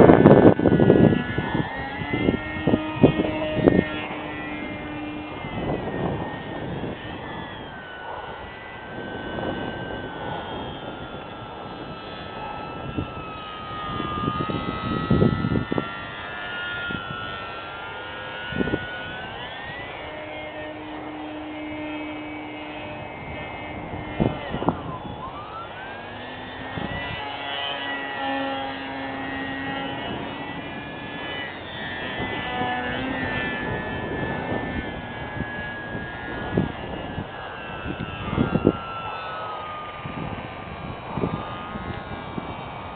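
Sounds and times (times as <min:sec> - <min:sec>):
electric model plane motor whining: 0:00.0 - 0:42.9.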